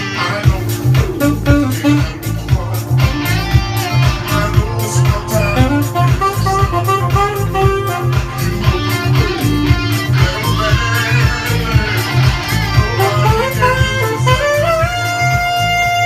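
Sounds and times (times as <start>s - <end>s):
music with heavy bass beat: 0.0s - 16.0s.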